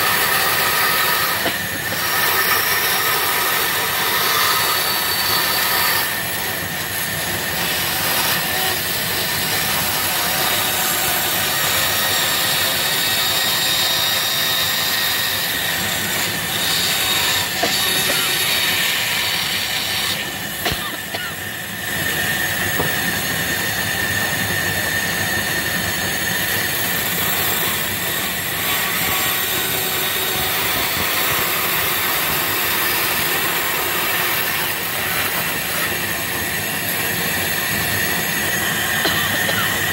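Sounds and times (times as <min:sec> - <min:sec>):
bandsaw cutting plywood: 0:00.0 - 0:39.9.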